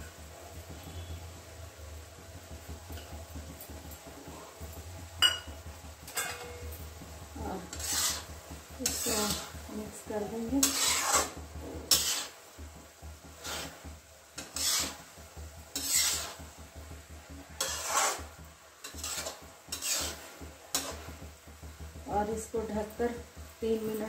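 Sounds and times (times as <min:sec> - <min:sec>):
metal spatula scraping rice: 0:00.1 - 0:01.8, 0:02.4 - 0:23.6.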